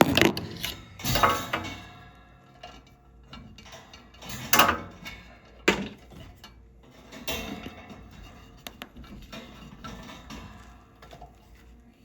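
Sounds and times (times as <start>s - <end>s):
power cord rattling against fan: 0.0s - 11.8s.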